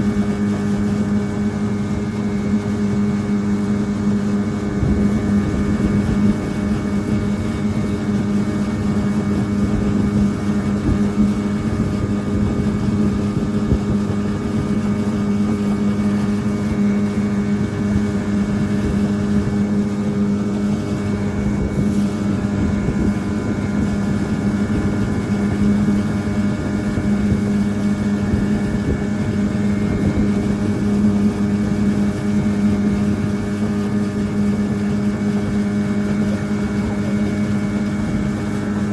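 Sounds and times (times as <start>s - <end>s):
motorboat engine droning: 0.0s - 38.9s
wind and water rushing: 0.0s - 38.9s.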